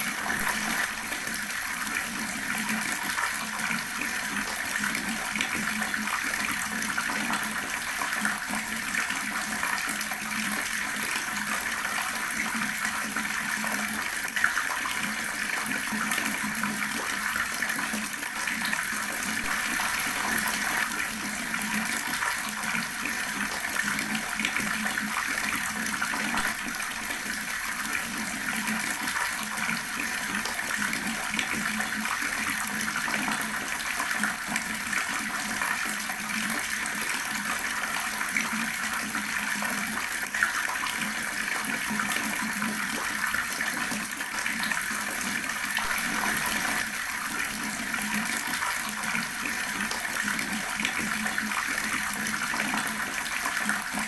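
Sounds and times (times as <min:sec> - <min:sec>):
water running from a tap: 0:00.0 - 0:54.0.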